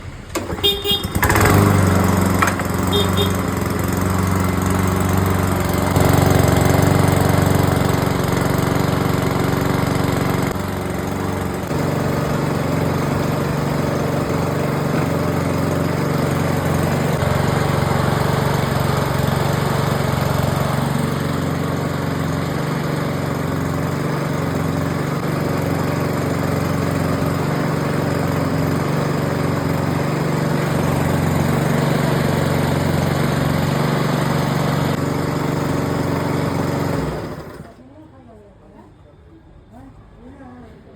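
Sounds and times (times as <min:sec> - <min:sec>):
lawn mower engine running: 0:00.0 - 0:37.8.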